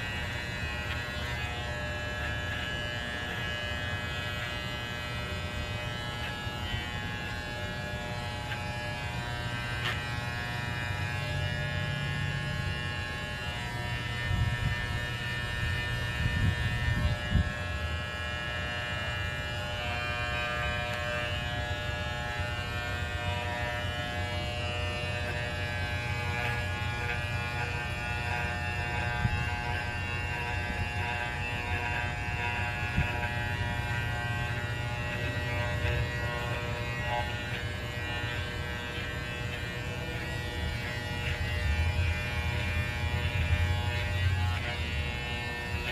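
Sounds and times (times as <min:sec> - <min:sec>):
electric pet clippers buzzing: 0:00.0 - 0:45.9.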